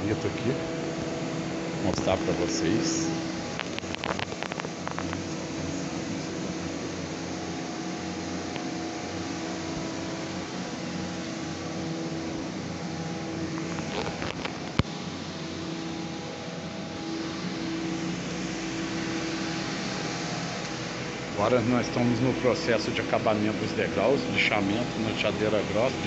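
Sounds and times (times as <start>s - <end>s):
electric motor hum: 0.0s - 26.0s.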